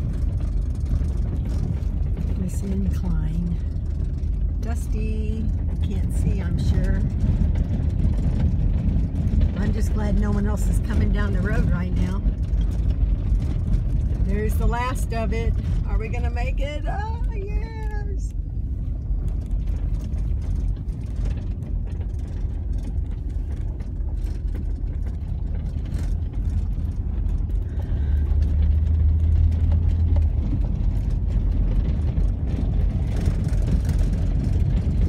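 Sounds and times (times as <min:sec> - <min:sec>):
car rumbling on gravel road: 0:00.0 - 0:35.0
deep engine drone: 0:00.0 - 0:35.0
gravel clicks: 0:00.0 - 0:35.0.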